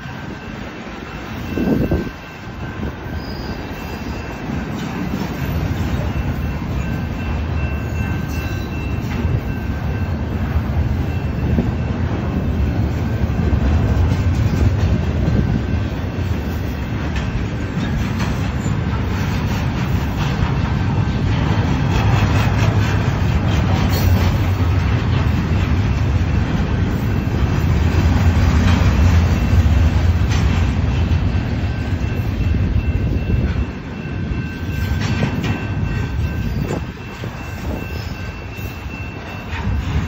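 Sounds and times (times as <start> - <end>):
freight train wheels rumbling and rattling: 0.0 - 40.0.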